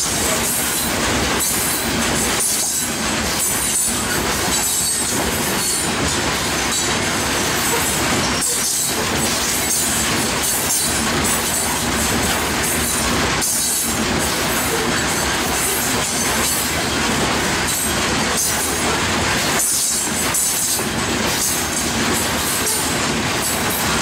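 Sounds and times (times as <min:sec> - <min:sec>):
train wheels clattering on rails: 0:00.0 - 0:24.0.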